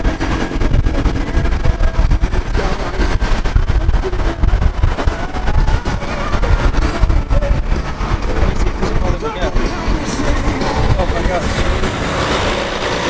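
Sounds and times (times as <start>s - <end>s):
car road and engine rumble: 0.0s - 13.0s
wind buffeting: 0.0s - 13.0s.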